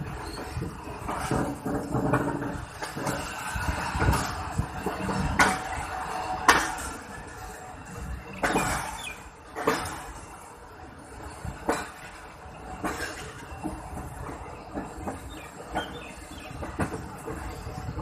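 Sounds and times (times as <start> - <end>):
train wheels rumbling: 0.0 - 18.0
wheels clunking over rail joints: 0.0 - 18.0.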